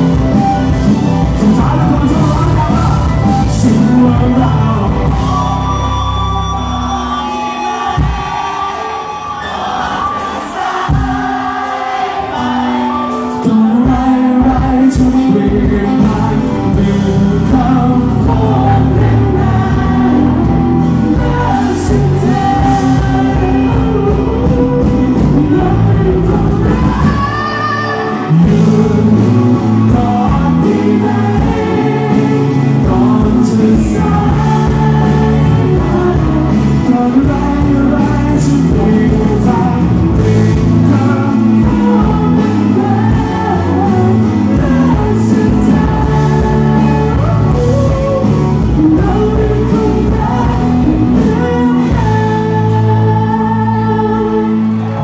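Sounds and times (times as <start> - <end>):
man singing: 0.0 - 8.8, 9.4 - 55.0
live pop-rock band: 0.0 - 55.0.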